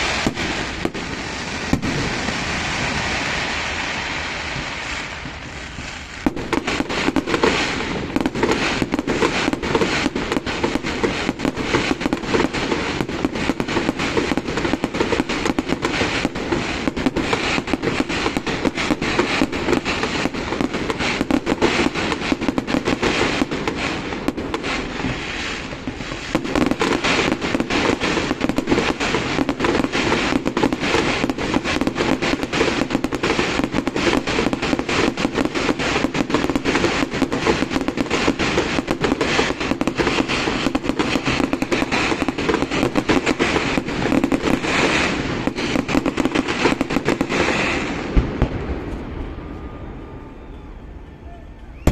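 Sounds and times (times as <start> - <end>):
fireworks crackling bangs: 0.0 - 50.3.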